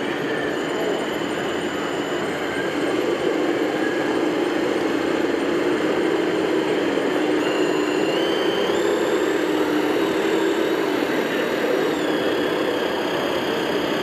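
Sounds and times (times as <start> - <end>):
faint high whining drive: 0.0 - 14.0.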